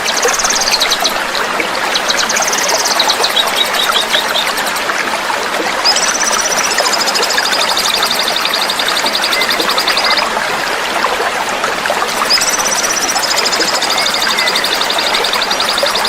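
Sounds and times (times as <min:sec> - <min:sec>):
songbird pulsed trill: 0:00.0 - 0:04.8, 0:05.8 - 0:10.3, 0:12.1 - 0:16.0
flowing water rushing: 0:00.0 - 0:16.0.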